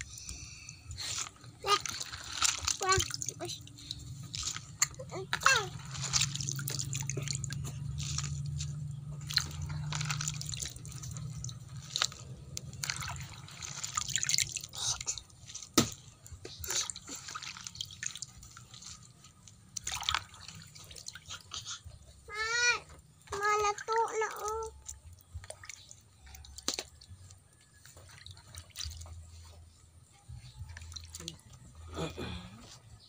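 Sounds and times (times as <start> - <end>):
water splashing and dripping: 0.0 - 31.8.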